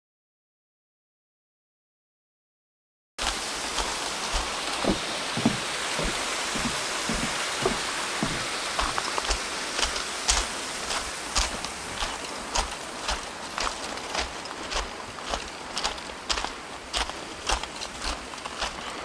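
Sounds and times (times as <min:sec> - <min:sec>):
footsteps on gravel: 0:03.2 - 0:19.0
steady rushing hiss: 0:03.2 - 0:19.0.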